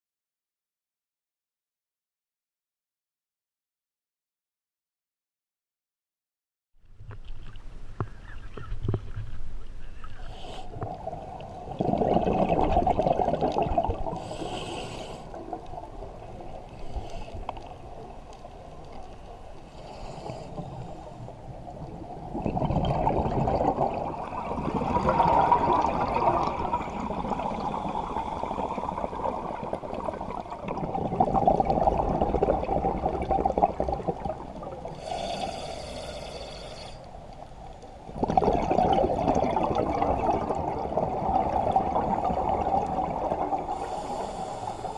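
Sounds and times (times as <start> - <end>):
underwater bubbles gurgling: 7.0 - 44.9.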